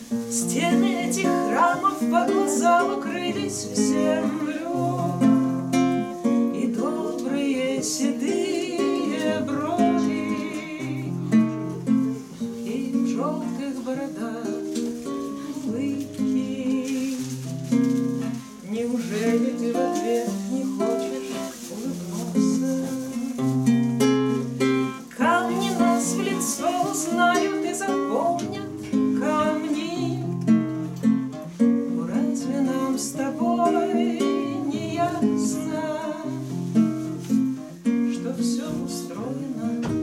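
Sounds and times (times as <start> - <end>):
classical guitars playing: 0.0 - 40.0.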